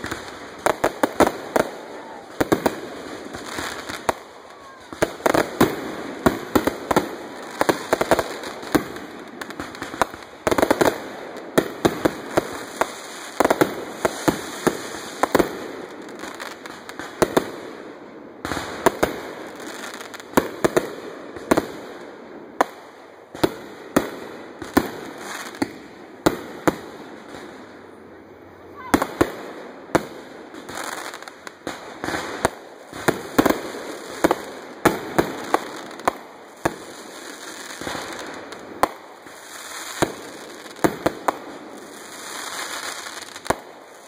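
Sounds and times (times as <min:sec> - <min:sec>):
dense firework crackling: 0:00.0 - 0:44.0.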